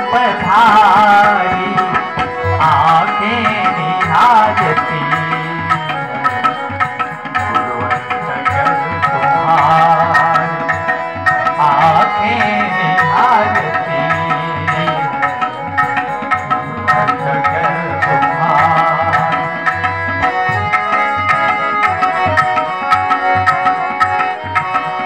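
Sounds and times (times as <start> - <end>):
person singing: 0.0 - 22.9
tabla rhythm: 0.0 - 25.0.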